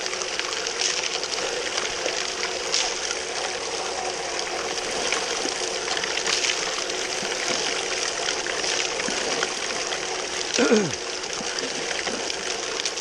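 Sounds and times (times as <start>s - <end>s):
pump humming: 0.0s - 13.0s
water rushing through sluice: 0.0s - 13.0s.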